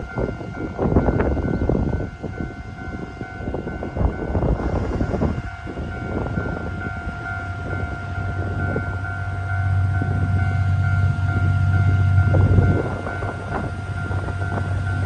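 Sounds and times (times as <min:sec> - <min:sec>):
level crossing alarm ringing: 0:00.0 - 0:15.0
train rumbling past: 0:00.0 - 0:15.0.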